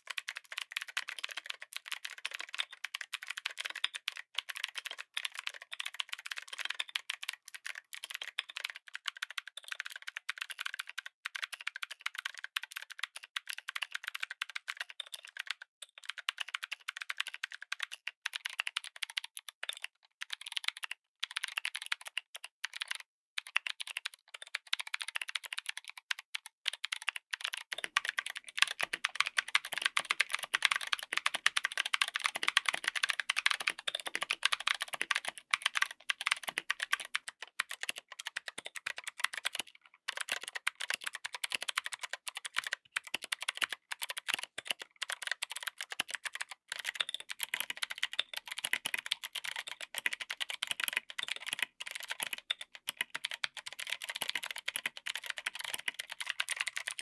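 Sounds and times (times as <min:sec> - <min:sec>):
clicky mechanical keyboard typing: 0:00.0 - 0:57.0.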